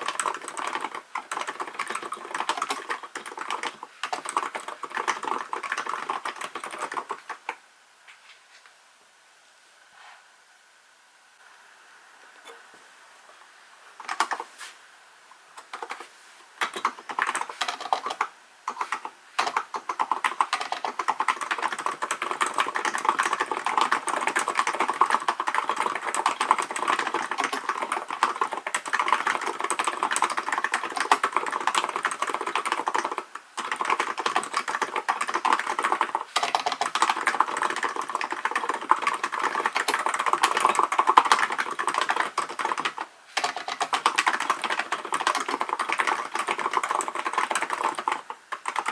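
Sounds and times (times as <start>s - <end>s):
fast keyboard typing: 0.0s - 7.6s, 14.0s - 14.5s, 15.6s - 48.9s.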